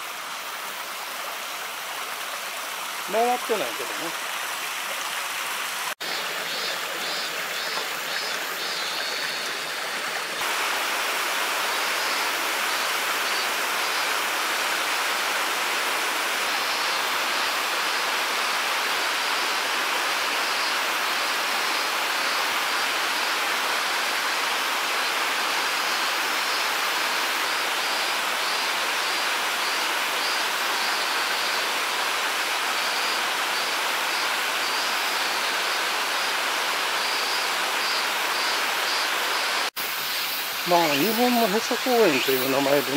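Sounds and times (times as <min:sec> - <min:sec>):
flowing water: 0:00.0 - 0:42.9.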